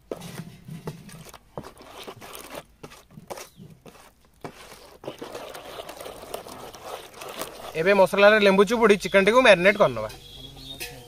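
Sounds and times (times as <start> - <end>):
hands mixing wet paste: 0.0 - 10.1.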